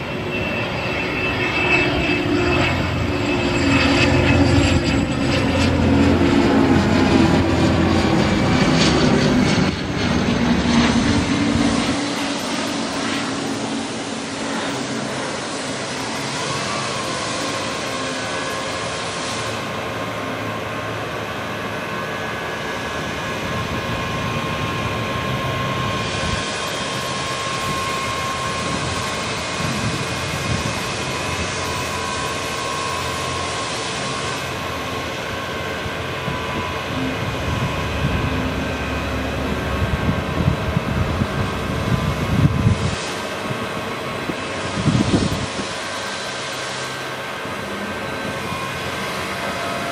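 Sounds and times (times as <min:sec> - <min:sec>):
hydraulic whine: 0:09.7 - 0:49.9.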